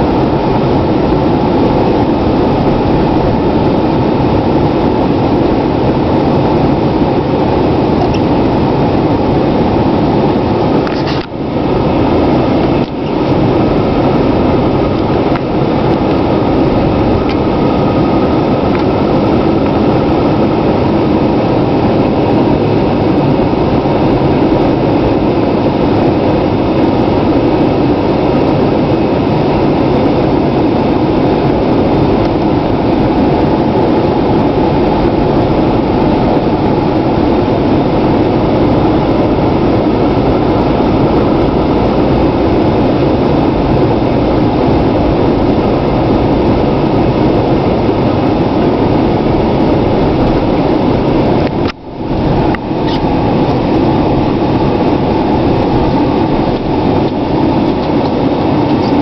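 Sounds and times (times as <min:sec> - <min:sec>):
diesel truck engine running: 0:00.0 - 0:59.0
tyre noise on snowy road: 0:00.0 - 0:59.0.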